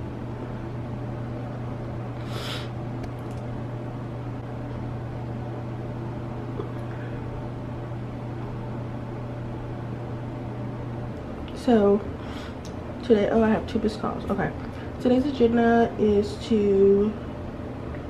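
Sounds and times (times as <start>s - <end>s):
appliance humming: 0.0s - 18.0s.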